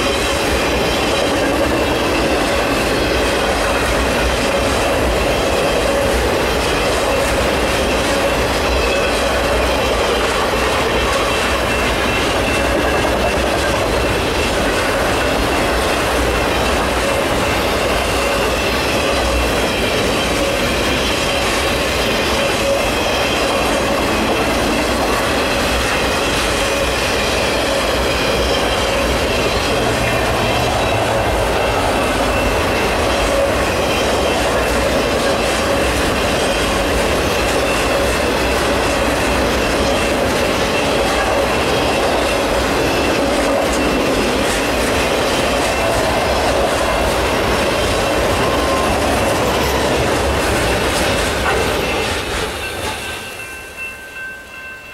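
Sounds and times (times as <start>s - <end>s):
wheels clacking over rail joints: 0.0s - 53.9s
high ringing from wheels: 0.0s - 54.9s
train wheels roaring on rail: 0.0s - 54.9s.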